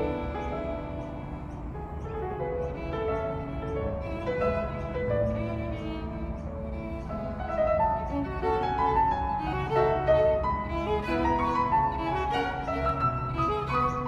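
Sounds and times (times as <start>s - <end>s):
held lower string notes: 0.0s - 14.0s
violin melody: 0.0s - 14.0s.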